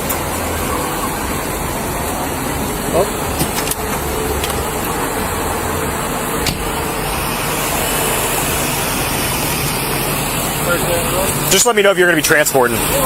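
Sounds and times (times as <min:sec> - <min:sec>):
low vehicle engine hum: 0:00.0 - 0:13.0.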